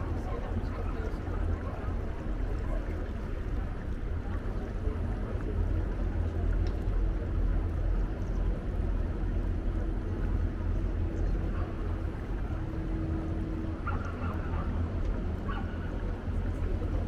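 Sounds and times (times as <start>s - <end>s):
boat motor rumbling: 0.0s - 17.0s
faint steady hum: 0.0s - 17.0s.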